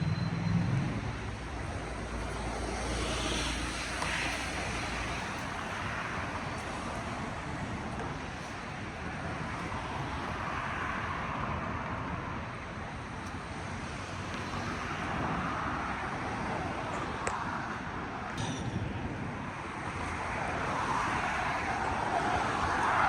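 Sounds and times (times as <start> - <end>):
passing vehicles and tyre noise: 0.0 - 23.0.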